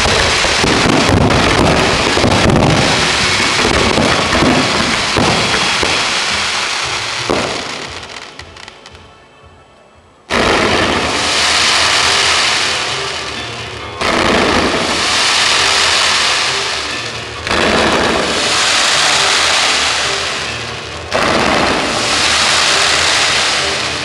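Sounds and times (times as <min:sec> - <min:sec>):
dense fireworks noise: 0:00.0 - 0:09.0, 0:10.3 - 0:24.0
fireworks bangs and rumble: 0:00.0 - 0:09.6, 0:10.2 - 0:24.0.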